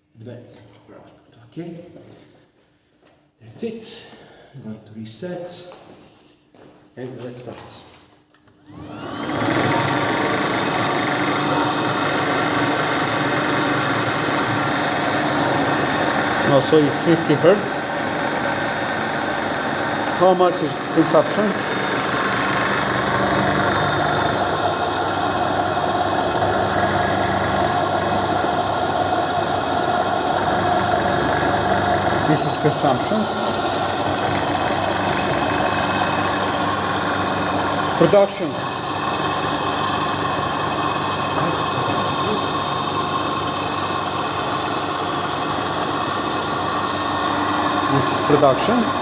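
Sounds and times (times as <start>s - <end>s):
generator machine hum: 8.6s - 49.0s
steady whining tone: 8.7s - 49.0s.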